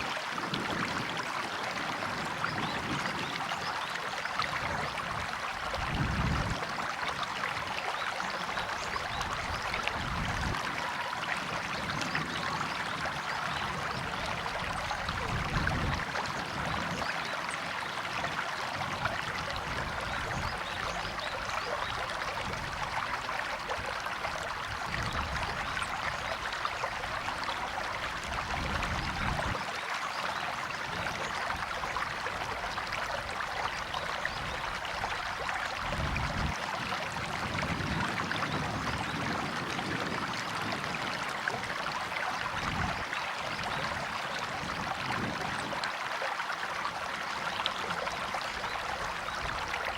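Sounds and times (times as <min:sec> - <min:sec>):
river water babbling: 0:00.0 - 0:49.9.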